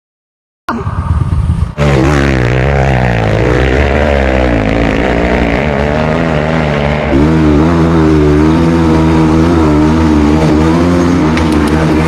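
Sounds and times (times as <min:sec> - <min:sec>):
motorcycle engine revving: 0:00.8 - 0:12.0.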